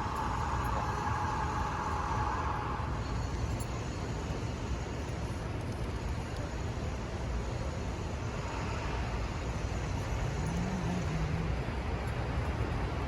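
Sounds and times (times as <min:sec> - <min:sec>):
city street traffic rumble: 0:00.0 - 0:13.0
faint engine-like hum: 0:00.0 - 0:13.0.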